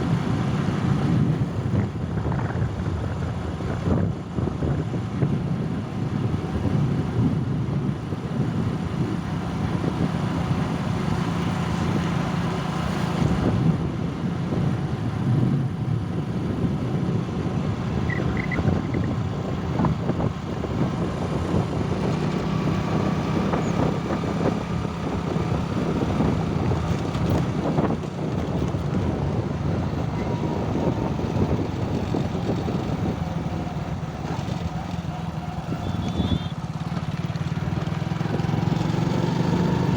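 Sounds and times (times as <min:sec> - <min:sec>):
road noise: 0:00.0 - 0:39.9
traffic engine hum: 0:00.0 - 0:39.9.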